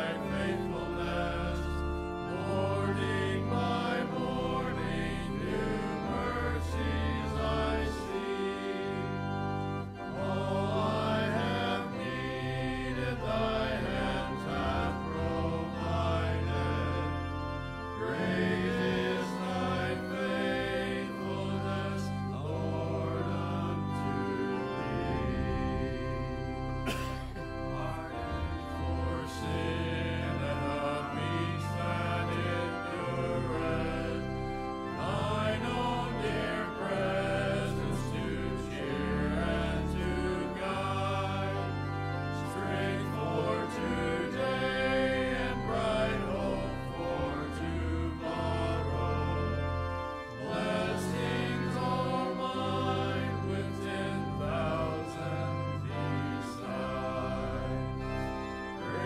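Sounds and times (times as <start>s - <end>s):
organ holding low notes: 0.0s - 59.0s
voices singing a hymn: 0.0s - 59.0s.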